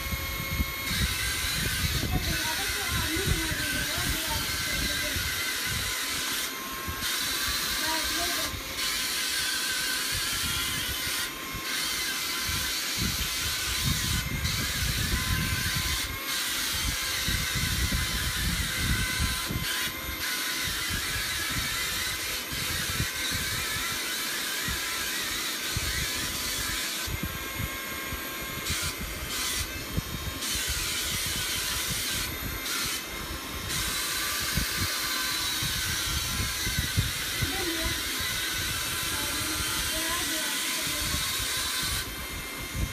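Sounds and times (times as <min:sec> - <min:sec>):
toy car fan whirring: 0:00.0 - 0:42.9.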